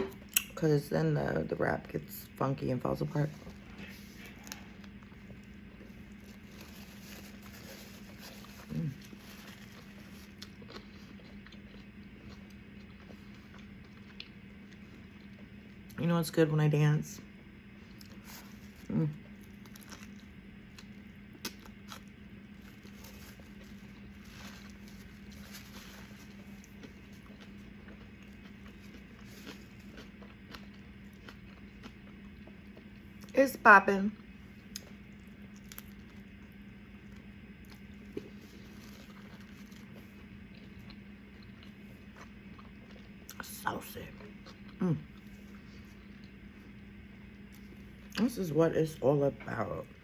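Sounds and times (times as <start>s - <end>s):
steady low hum: 0.0s - 50.0s
person chewing food: 3.3s - 16.0s, 17.7s - 33.3s, 34.2s - 48.2s.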